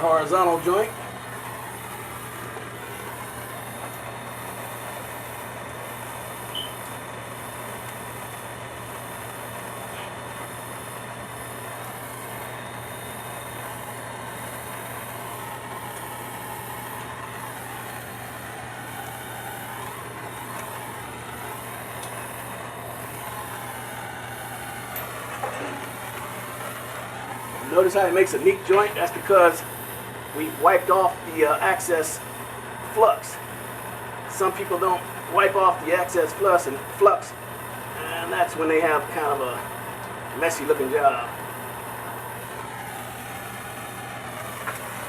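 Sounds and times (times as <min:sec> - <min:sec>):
torch flame hissing: 0:00.0 - 0:45.0.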